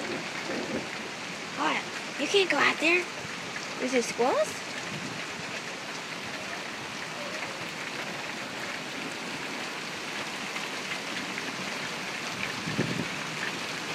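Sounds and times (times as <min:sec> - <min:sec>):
hail and rain hissing: 0:00.0 - 0:13.9.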